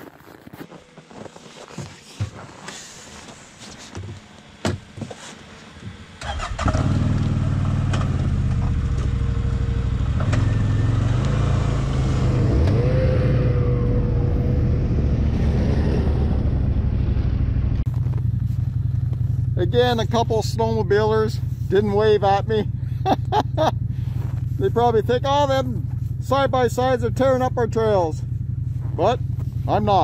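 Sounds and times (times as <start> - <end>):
snowmobile engines: 0.0 - 30.0.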